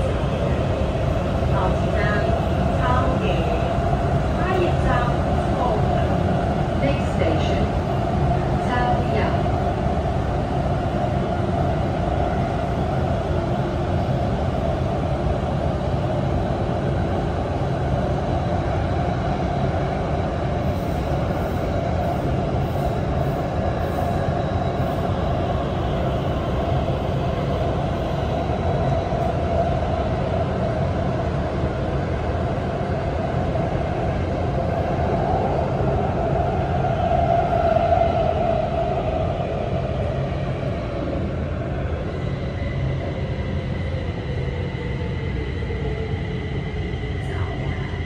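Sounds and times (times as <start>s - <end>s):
train interior rumble: 0.0s - 48.0s.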